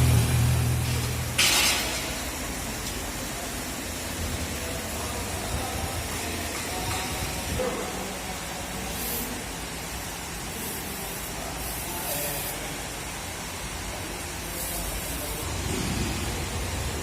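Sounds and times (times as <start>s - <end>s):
hissing spray bursts: 0.0s - 16.4s
low workshop rumble: 0.0s - 17.0s.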